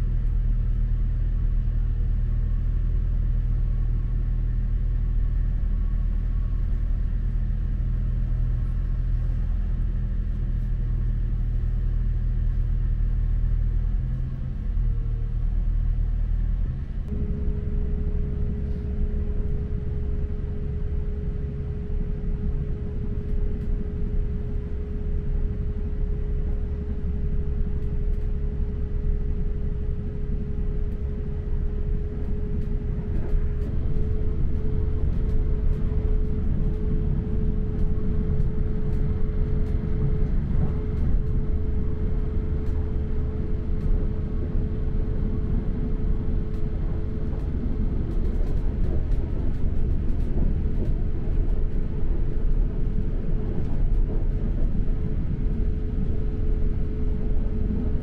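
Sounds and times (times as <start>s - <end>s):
high hum: 0.0s - 58.0s
train engine drone: 0.0s - 58.0s
wheels rumbling on track: 0.0s - 58.0s.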